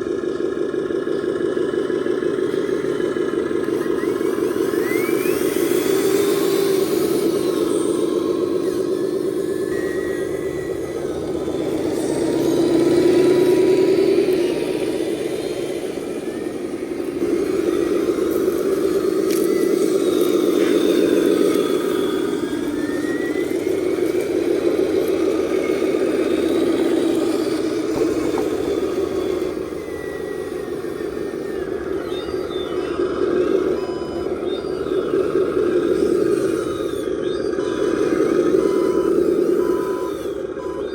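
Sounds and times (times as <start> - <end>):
toy truck motor whirring: 0.0 - 40.9.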